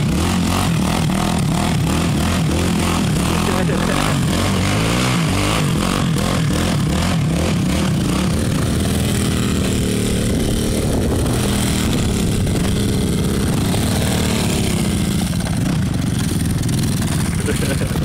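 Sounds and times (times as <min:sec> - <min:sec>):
quad bike engines revving: 0:00.0 - 0:18.0.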